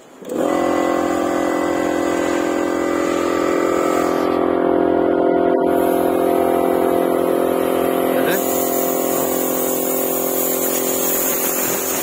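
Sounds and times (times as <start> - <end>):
electric air compressor running: 0.0 - 12.0.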